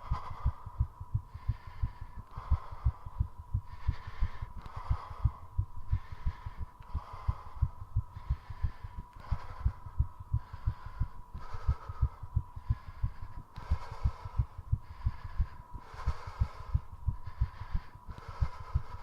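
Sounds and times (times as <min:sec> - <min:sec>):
heartbeat double thumps: 0:00.0 - 0:17.6
heavy rhythmic breathing: 0:00.0 - 0:19.0.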